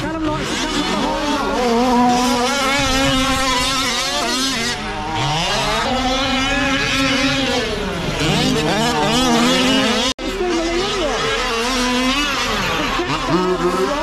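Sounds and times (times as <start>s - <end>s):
rc truck engines revving: 0.0s - 14.0s.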